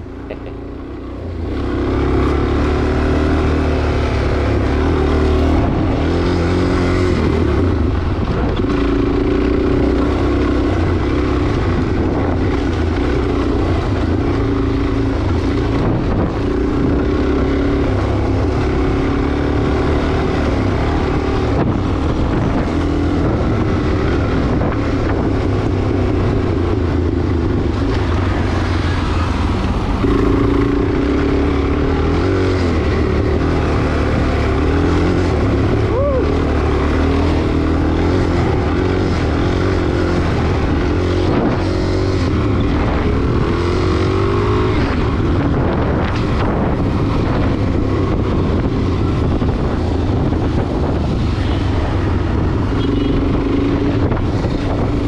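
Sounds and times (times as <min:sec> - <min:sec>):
motorcycle engine running: 0:00.0 - 0:55.0
wind rushing over microphone: 0:01.2 - 0:55.0.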